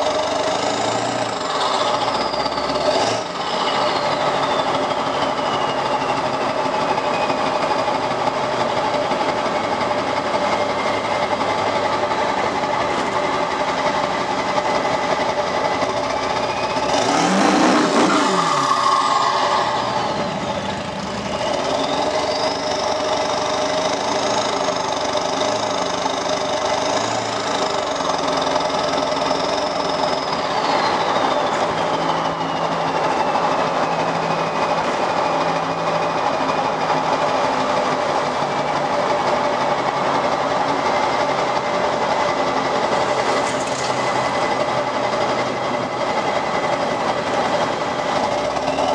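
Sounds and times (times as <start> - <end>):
diesel engine clatter: 0.0 - 48.9.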